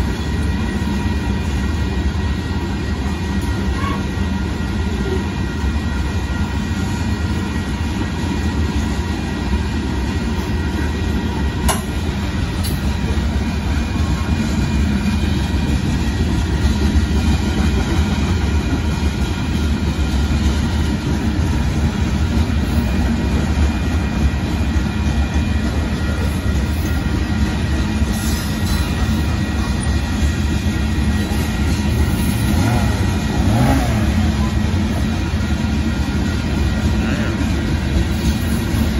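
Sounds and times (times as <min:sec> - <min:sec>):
clickety-clack over rail joints: 0:00.0 - 0:38.9
steel wheels rumbling on rail: 0:00.0 - 0:38.9.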